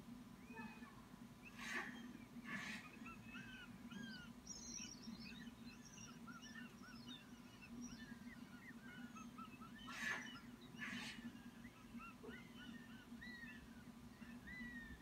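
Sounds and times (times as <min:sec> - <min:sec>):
faint low hum: 0:00.0 - 0:15.0
young hawks chirping: 0:01.5 - 0:15.0.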